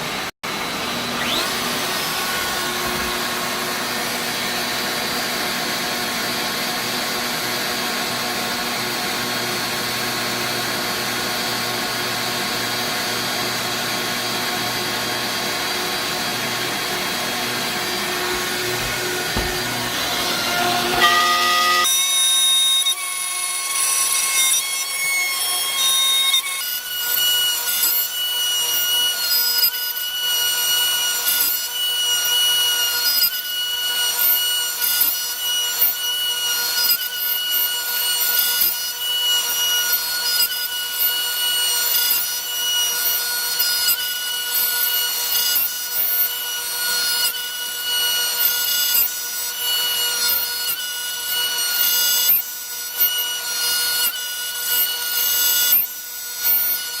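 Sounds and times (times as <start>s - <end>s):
router whining carving wood: 0.0s - 57.0s.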